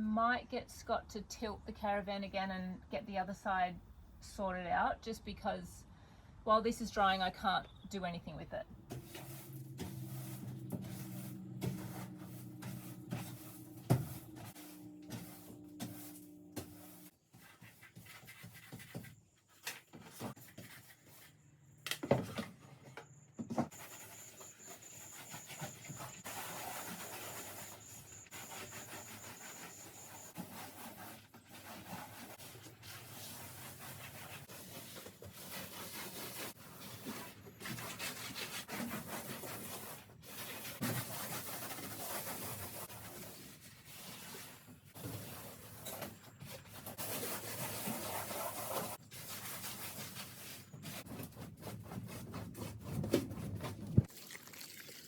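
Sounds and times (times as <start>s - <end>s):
rubbing and scraping on surface: 7.1s - 21.5s, 23.4s - 54.1s.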